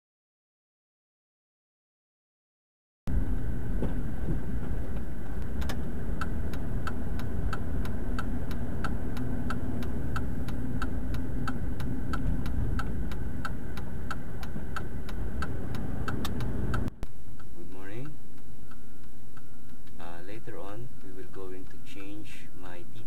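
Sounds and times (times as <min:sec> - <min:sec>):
engine and road noise: 0:03.1 - 0:23.0
turn signal ticking: 0:03.1 - 0:23.0.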